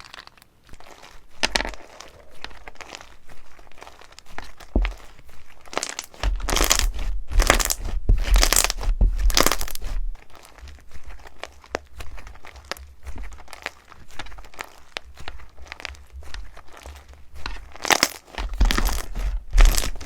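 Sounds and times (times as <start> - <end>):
slime crackles and pops: 0.0 - 20.0
slime squishing: 0.0 - 20.0.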